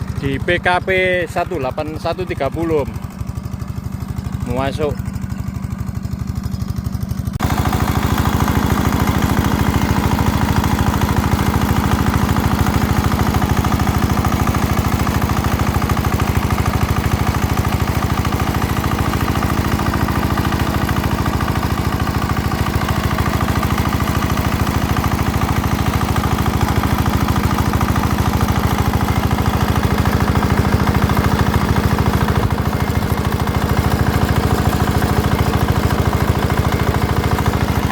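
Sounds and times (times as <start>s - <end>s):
diesel engine knocking: 0.0s - 37.9s.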